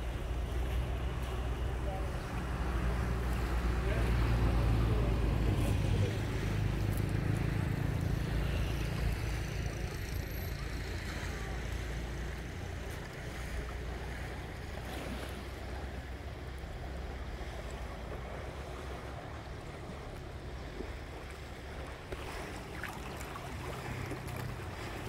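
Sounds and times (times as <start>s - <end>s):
boat engine humming: 0.0s - 25.0s
waves: 0.0s - 25.0s
wind: 0.0s - 25.0s.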